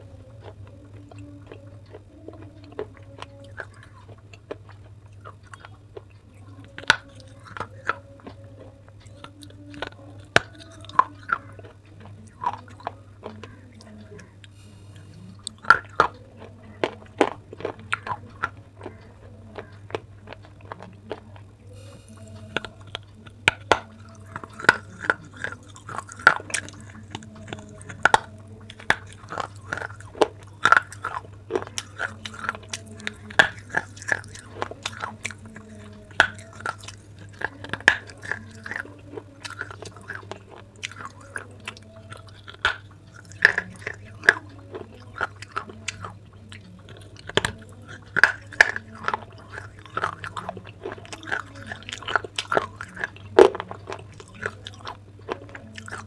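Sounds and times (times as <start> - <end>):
crunchy chewing: 0.0 - 56.0
steady low hum: 0.0 - 56.0.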